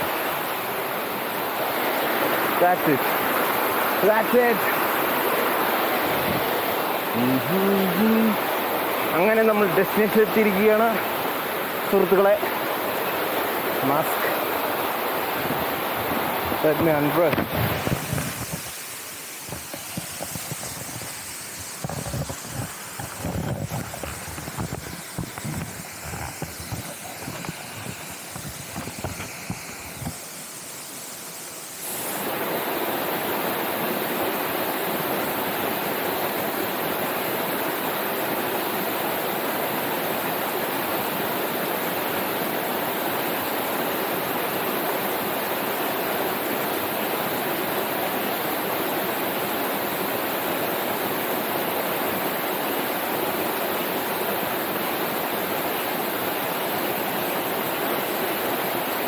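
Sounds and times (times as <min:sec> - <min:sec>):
falling water rushing: 0:00.0 - 0:59.0.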